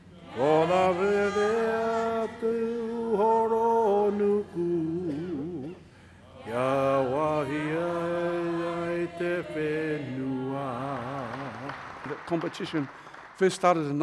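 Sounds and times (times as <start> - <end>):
voices singing chant in unison: 0.1 - 11.8.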